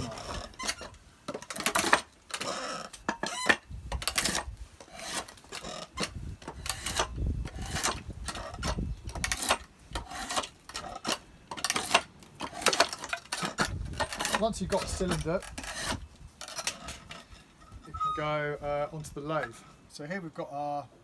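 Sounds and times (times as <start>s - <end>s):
draw knife scraping wood: 0.0s - 18.3s.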